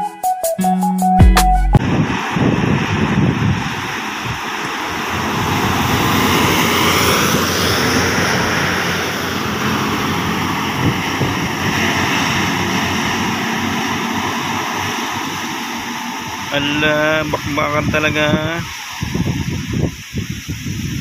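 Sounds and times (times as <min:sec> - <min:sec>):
buses and truck engines under load: 0:01.8 - 0:21.0.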